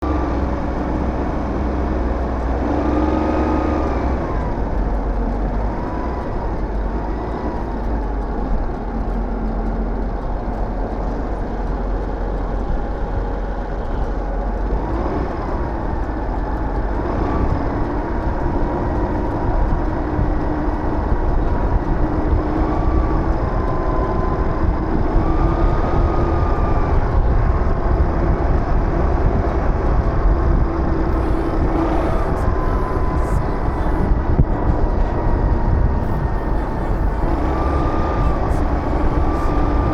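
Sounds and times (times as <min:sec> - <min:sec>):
scooter engine running: 0:00.0 - 0:39.9
wind noise: 0:00.0 - 0:39.9.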